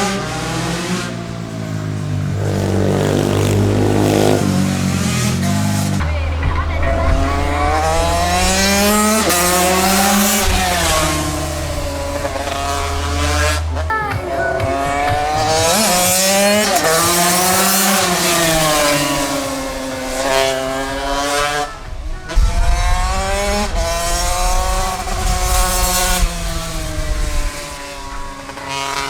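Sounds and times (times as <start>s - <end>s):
small motorcycle engine revving: 0.0s - 29.0s.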